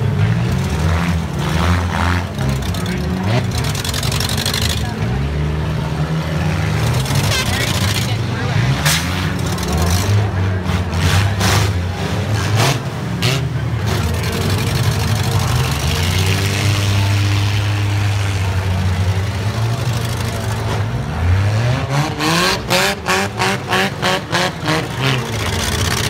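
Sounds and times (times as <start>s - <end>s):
car engines running: 0.0s - 26.0s.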